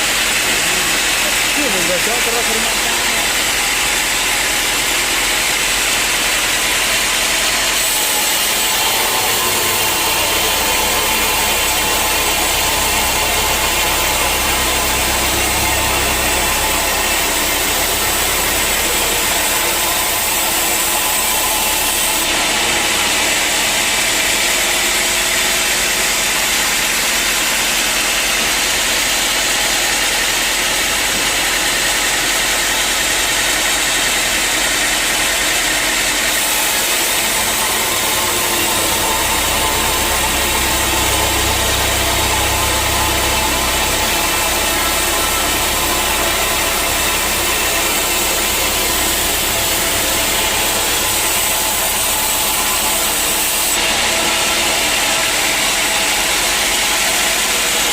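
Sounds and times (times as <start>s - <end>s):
sawmill machinery hissing: 0.0s - 57.9s.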